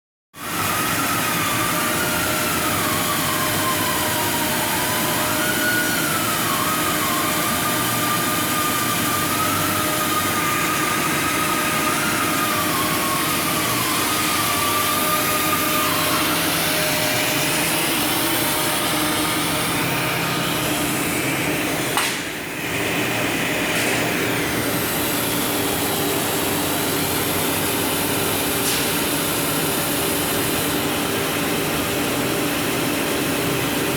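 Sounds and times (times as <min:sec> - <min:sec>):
wavering high whine: 0:00.4 - 0:32.3.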